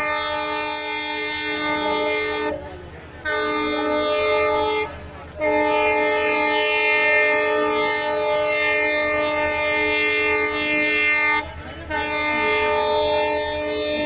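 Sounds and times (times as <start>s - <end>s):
locomotive horn blasts: 0.0s - 14.0s.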